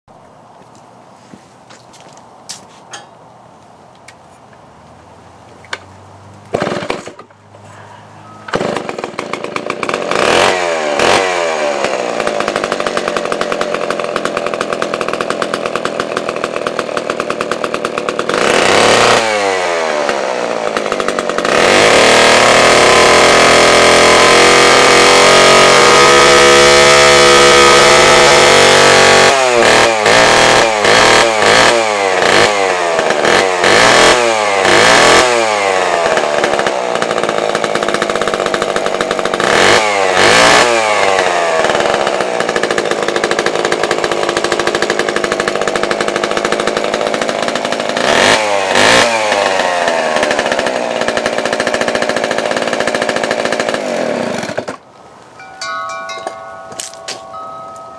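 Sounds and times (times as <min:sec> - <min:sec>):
chainsaw engine idling and revving: 0:05.8 - 0:57.9
chainsaw pull-starting: 0:06.5 - 0:07.6, 0:08.2 - 0:57.9.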